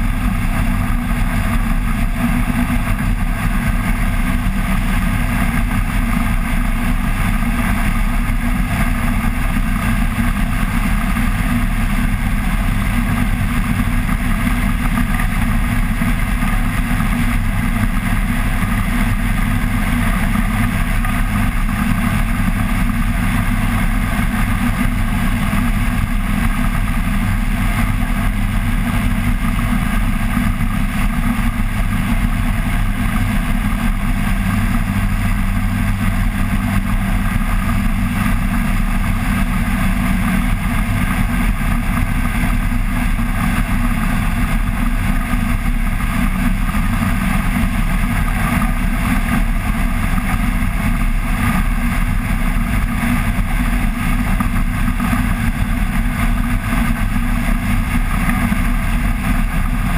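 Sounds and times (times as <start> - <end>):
engine and propeller drone: 0.0 - 59.9
wind rushing over microphone: 0.0 - 59.9.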